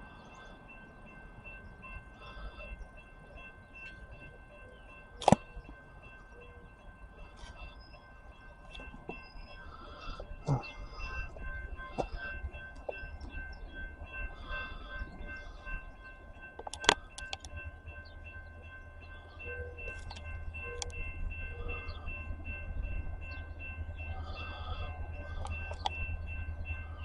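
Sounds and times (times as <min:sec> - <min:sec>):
freight train rumble: 0:00.0 - 0:27.0.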